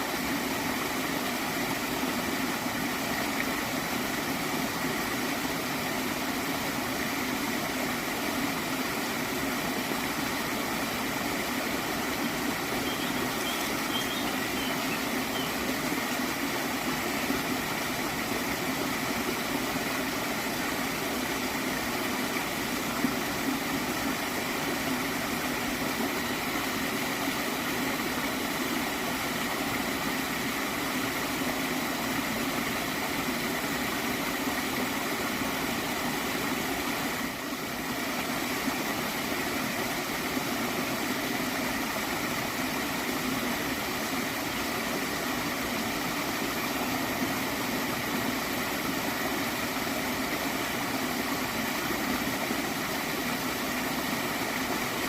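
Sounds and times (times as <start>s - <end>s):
stream water gurgling: 0.0s - 55.0s.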